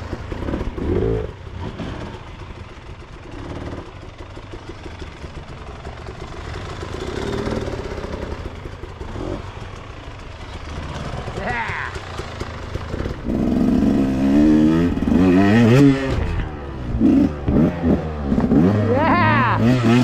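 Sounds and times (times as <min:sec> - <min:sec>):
dirt bike engine revving: 0:00.0 - 0:09.9, 0:10.6 - 0:20.0.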